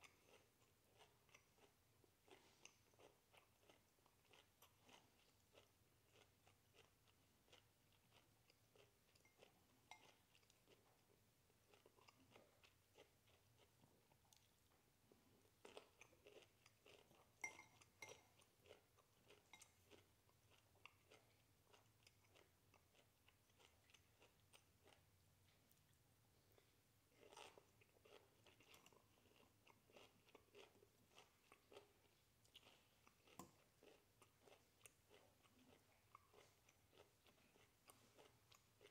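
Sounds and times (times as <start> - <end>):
chewing with small crunches: 0.0 - 38.9.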